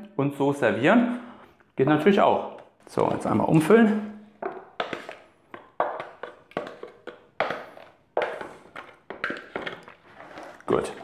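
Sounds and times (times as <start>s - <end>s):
spatula scraping plastic bowl: 1.8s - 11.0s.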